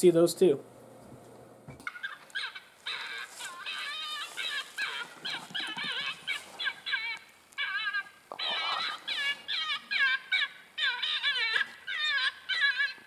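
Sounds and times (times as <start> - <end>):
electronic animal distress cries: 1.8 - 13.0.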